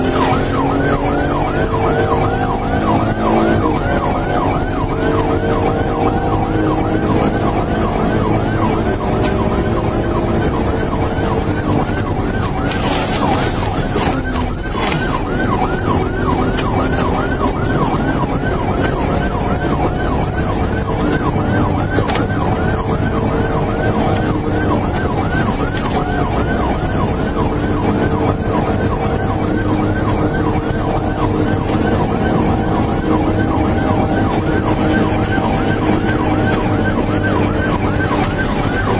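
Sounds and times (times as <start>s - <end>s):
car engine and road noise: 0.0s - 38.9s
police siren yelping: 0.0s - 38.9s.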